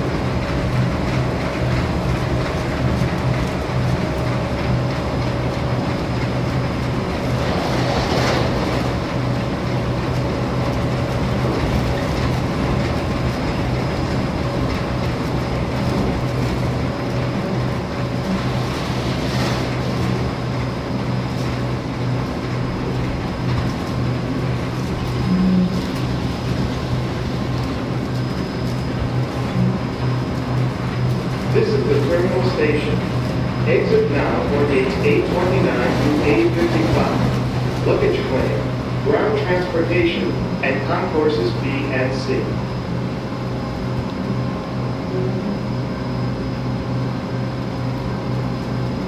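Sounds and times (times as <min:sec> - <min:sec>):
train interior hum: 0:00.0 - 0:49.0.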